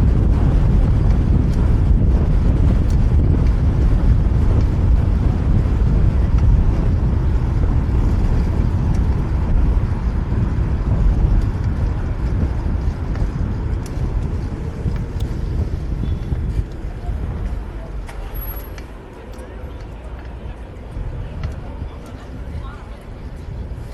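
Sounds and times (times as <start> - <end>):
wind rumble on microphone: 0.0 - 23.9.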